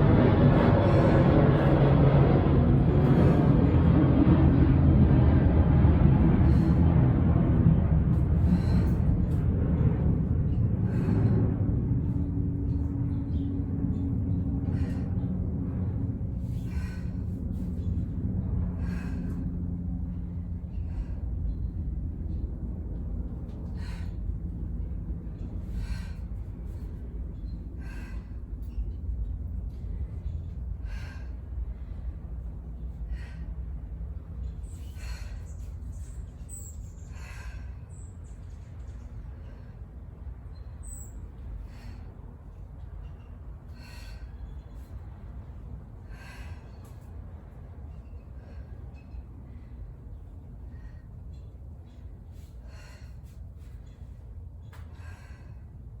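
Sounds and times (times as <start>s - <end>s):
woman breathing hard: 0.0s - 4.0s, 6.1s - 56.0s
steady low hum: 0.0s - 56.0s.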